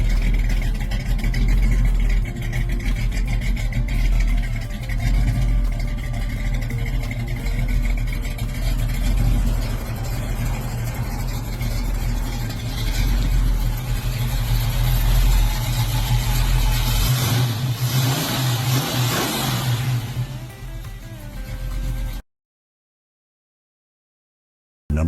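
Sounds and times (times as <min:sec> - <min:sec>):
car engine running: 0:00.0 - 0:22.2.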